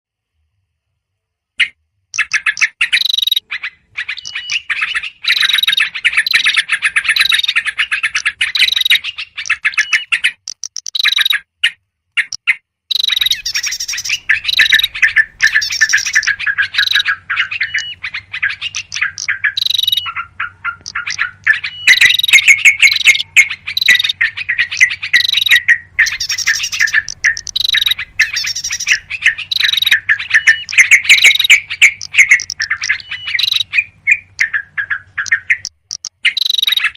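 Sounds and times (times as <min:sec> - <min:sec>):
bulbuls chirping and chattering: 0:01.6 - 0:36.9.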